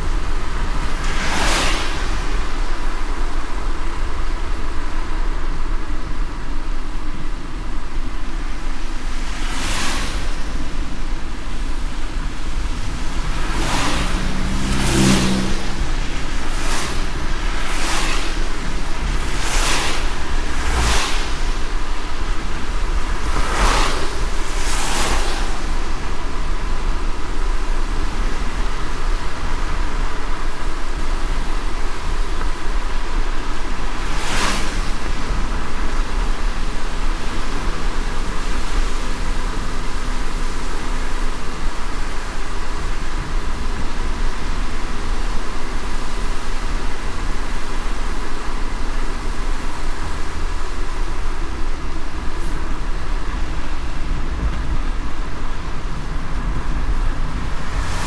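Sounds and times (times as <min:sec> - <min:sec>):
low rumble: 0:00.0 - 0:58.0
road and tyre noise in rain: 0:00.0 - 0:58.0.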